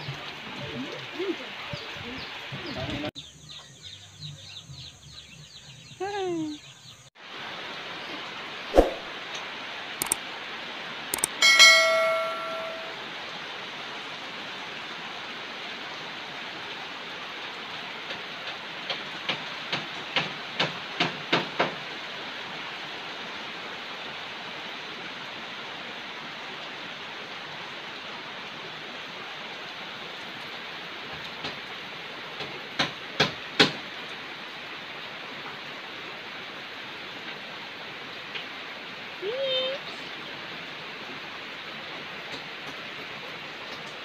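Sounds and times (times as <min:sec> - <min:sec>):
heavy rain hissing: 0:00.0 - 0:03.6, 0:07.2 - 0:11.2, 0:12.9 - 0:44.0.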